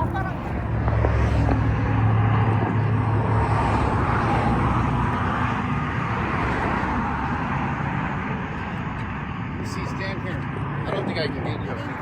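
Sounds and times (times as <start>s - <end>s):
low engine hum: 0.0s - 12.0s
traffic rushing past: 0.0s - 12.0s.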